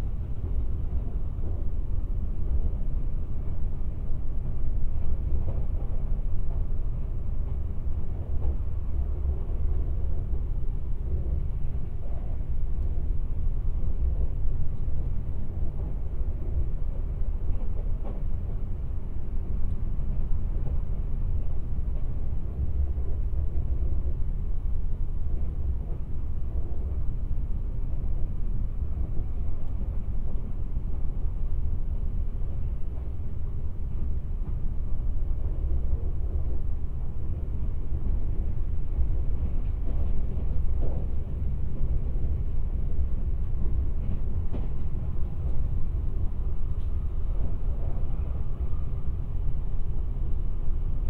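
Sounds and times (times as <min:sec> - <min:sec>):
train wheels rumbling on track: 0:00.0 - 0:51.0.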